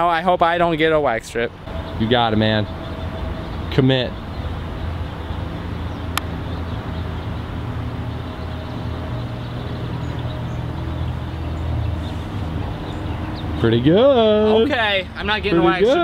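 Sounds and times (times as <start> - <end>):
steady low hum: 1.5 - 16.0.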